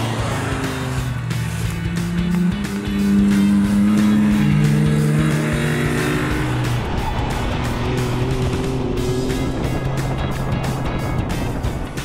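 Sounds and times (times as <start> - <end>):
background music with beat: 0.0 - 12.0
small car engines driving: 0.0 - 12.0.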